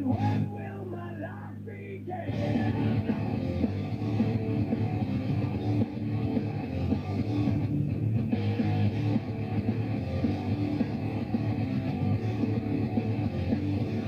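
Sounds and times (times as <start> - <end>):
instrumental rock music: 2.3 - 14.0.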